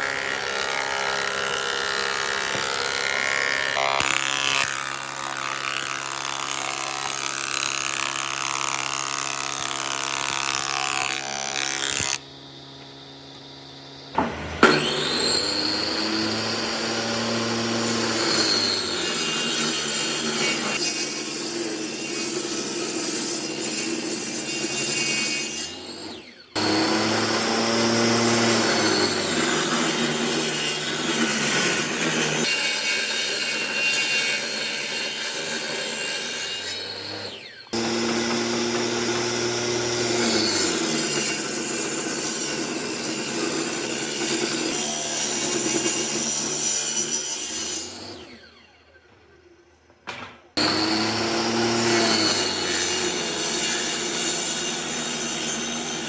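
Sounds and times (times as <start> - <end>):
power tool cutting wood: 0.0 - 49.6, 50.6 - 56.0.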